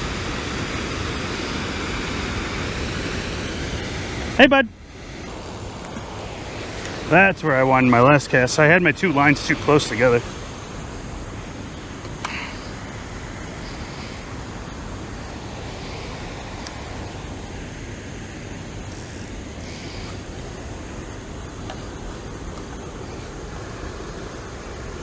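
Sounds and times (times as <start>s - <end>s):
rushing outdoor background noise: 0.0s - 25.0s.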